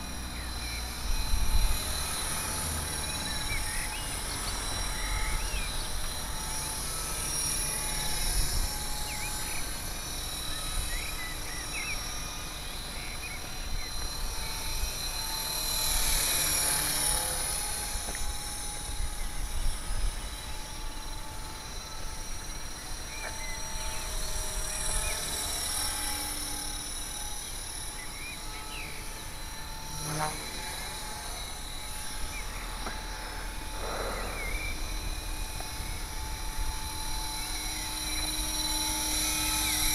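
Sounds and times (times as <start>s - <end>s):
rc helicopter whining: 0.0s - 39.9s.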